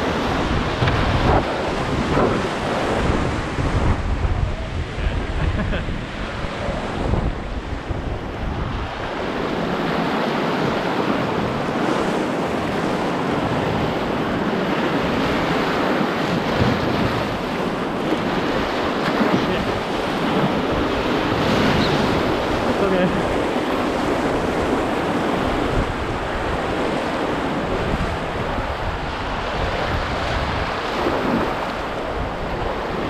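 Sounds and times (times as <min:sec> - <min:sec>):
roaring whitewater rapid: 0:00.0 - 0:33.0
wind rumble on microphone: 0:00.0 - 0:33.0.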